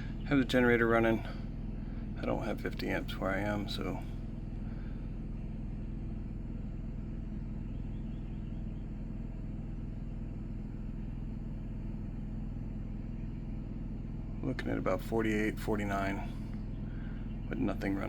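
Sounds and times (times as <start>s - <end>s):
generator humming: 0.0s - 18.0s.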